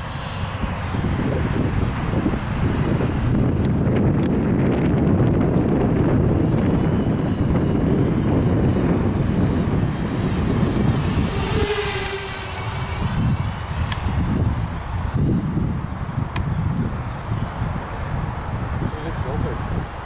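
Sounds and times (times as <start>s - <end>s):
high pitch-shifting whine: 0.0s - 20.0s
quadcopter propellers buzzing: 0.0s - 20.0s
steady rumble: 0.0s - 20.0s.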